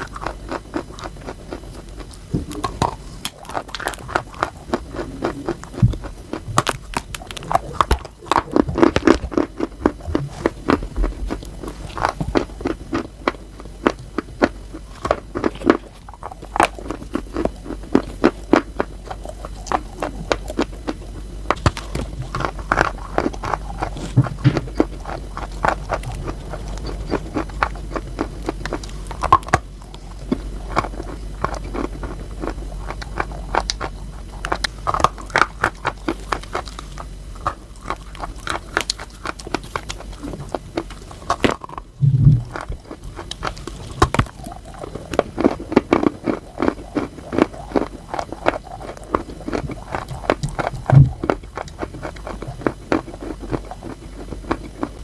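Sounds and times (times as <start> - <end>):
crunchy food being chewed: 0.0 - 55.0.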